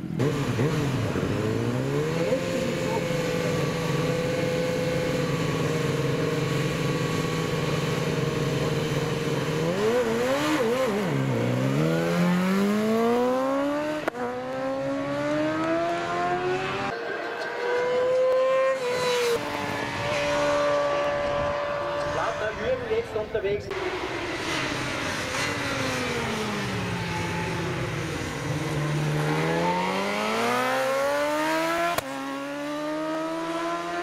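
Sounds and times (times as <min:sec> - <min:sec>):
racing motorcycle engine revving: 0:00.0 - 0:23.1, 0:23.7 - 0:34.0.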